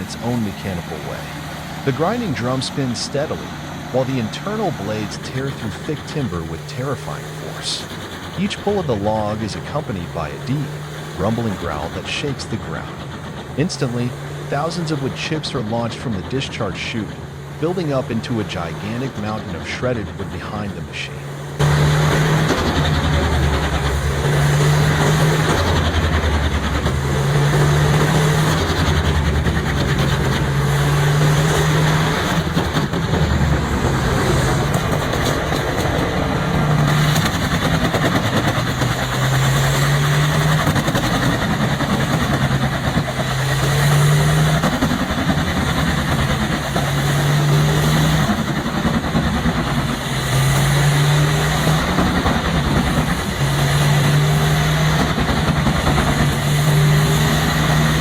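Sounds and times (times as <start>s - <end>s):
wood chipper roaring: 0.0s - 58.0s.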